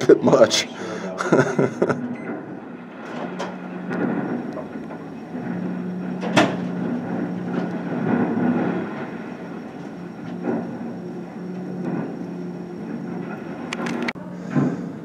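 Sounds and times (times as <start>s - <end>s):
excavator engine hum: 0.0s - 15.0s.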